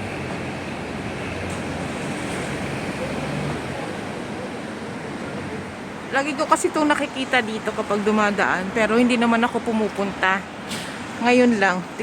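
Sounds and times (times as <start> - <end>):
passing road traffic: 0.0 - 12.0
urban hum: 0.0 - 12.0.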